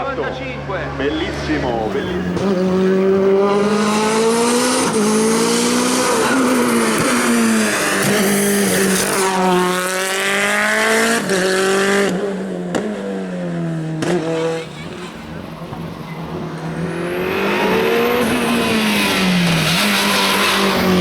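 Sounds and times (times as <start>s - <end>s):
race car engine at high revs: 0.9s - 21.0s.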